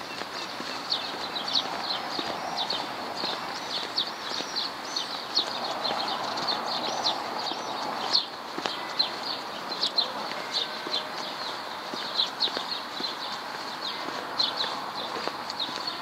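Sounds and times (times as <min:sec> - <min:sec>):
footsteps on cobblestones: 0:00.0 - 0:16.0
steady street hiss: 0:00.0 - 0:16.0.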